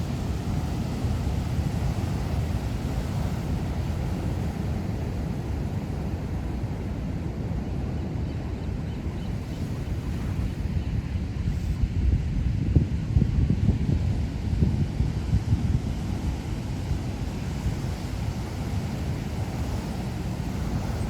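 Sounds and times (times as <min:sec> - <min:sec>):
heavy surf waves breaking: 0:00.0 - 0:21.0
wind rumbling on microphone: 0:00.0 - 0:21.0.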